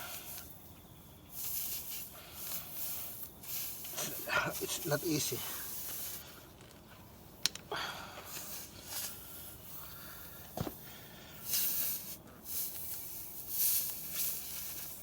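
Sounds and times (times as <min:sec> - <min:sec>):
air hissing from a tyre: 0:00.0 - 0:06.4, 0:07.7 - 0:15.0.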